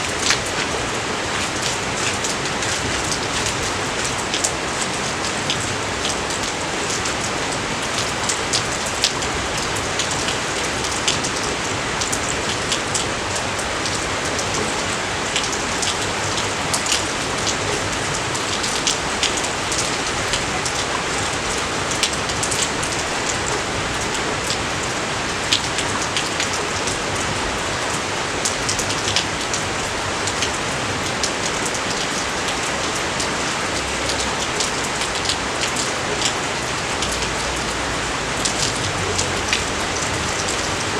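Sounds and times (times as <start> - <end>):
raindrops ticking close by: 0.1 - 40.9.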